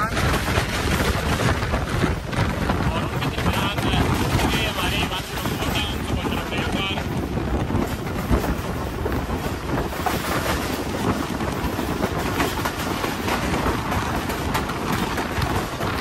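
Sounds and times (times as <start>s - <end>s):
passenger train rumbling: 0.0s - 16.0s
wind buffeting microphone: 0.0s - 16.0s.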